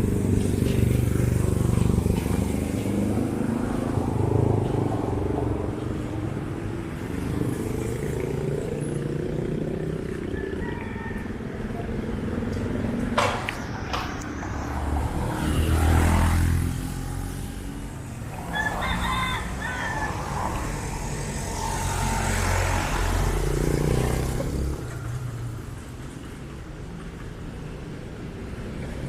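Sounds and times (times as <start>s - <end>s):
vehicle engines passing: 0.0s - 29.0s.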